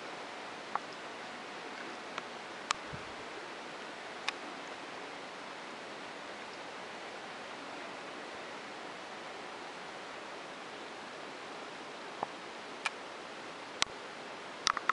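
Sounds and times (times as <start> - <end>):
room noise hiss: 0.0 - 14.9.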